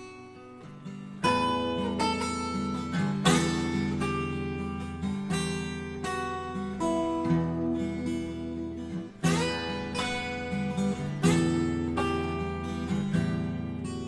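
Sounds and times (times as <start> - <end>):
strummed acoustic guitar chords: 0.0 - 14.0.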